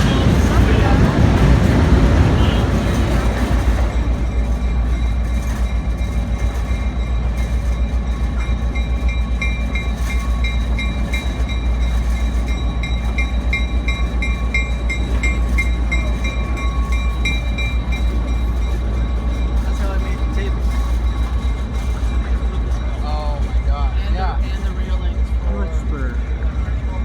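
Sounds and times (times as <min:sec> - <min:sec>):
train rumble on board: 0:00.0 - 0:27.0.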